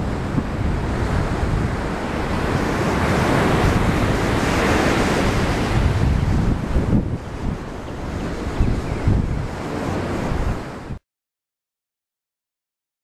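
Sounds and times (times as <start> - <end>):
ocean surf washing onto beach: 0.0 - 11.0
wind buffeting microphone: 0.0 - 11.0.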